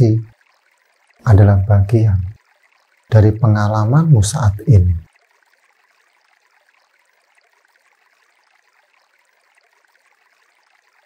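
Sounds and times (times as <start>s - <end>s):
stream water hiss: 0.0s - 11.0s.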